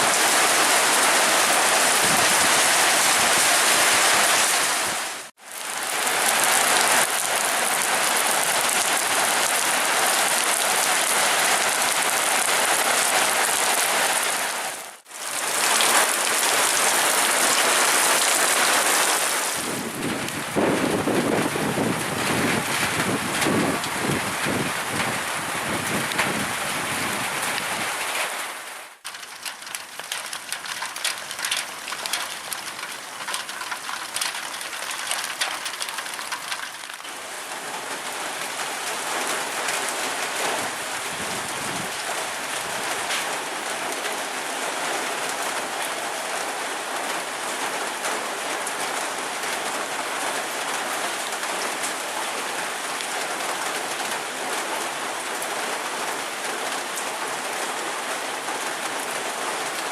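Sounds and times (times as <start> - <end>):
close raindrop hits: 0.0 - 59.9
heavy rain pouring: 0.0 - 59.9.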